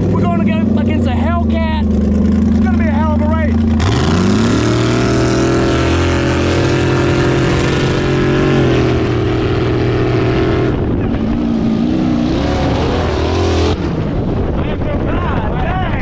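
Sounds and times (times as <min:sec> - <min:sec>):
engine revving at full throttle: 0:00.0 - 0:14.5.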